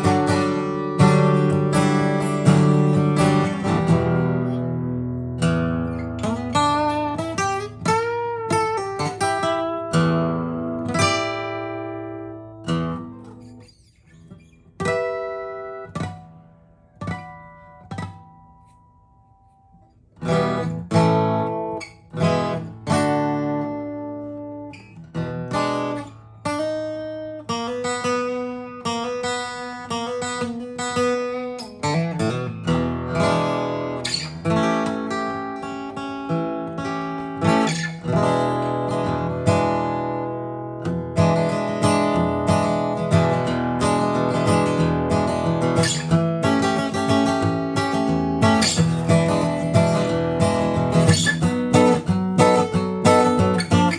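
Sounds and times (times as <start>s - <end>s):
acoustic guitar playing: 0.0s - 53.9s.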